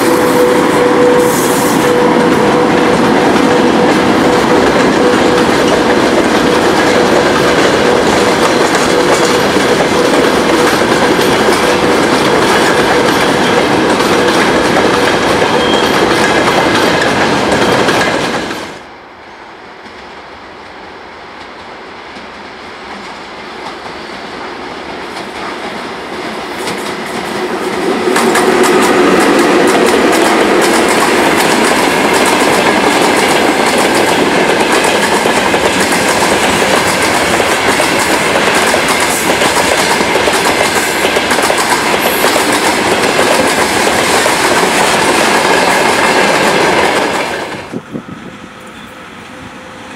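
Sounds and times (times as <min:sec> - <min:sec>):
train wheels clacking over rail joints: 0:00.0 - 0:18.8, 0:21.4 - 0:47.7
electric locomotive approaching: 0:00.0 - 0:49.9.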